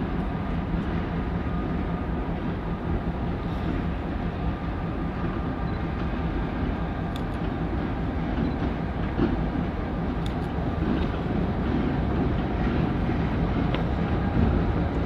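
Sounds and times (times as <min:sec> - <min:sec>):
freight train running on rails: 0:00.0 - 0:15.0.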